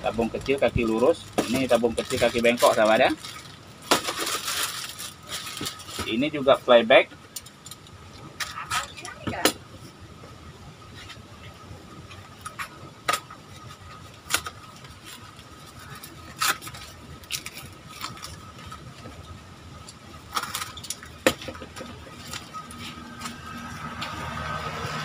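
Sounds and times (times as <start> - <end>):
low background rumble: 0.0 - 24.3.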